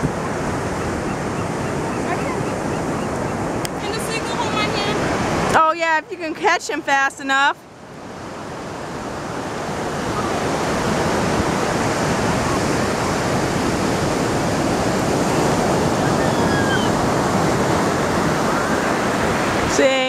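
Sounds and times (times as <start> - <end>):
wind buffeting microphone: 0.0 - 6.4, 7.9 - 19.8
ocean surf rushing: 0.0 - 20.0.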